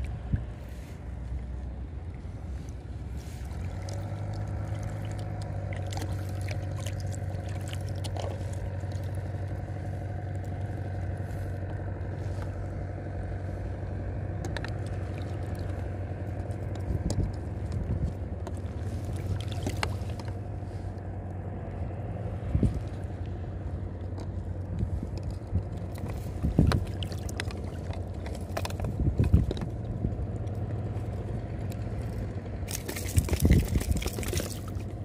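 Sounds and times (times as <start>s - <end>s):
boat motor humming: 0.0s - 35.0s.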